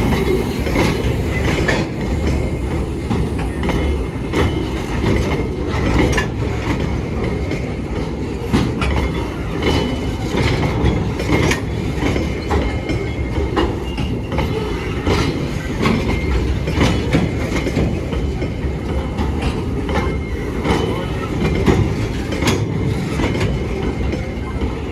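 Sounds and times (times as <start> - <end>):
train wheels rumbling: 0.0 - 24.9
wheels clacking over rail joints: 0.0 - 24.9.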